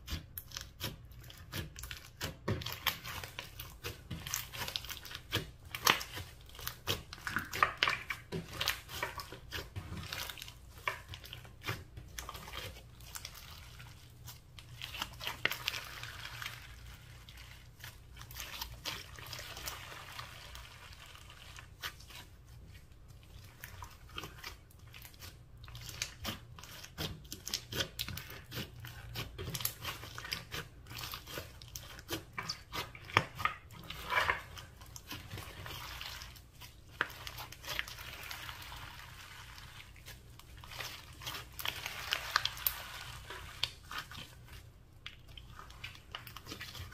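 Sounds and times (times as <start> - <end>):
hands squeezing slime: 0.0 - 46.9.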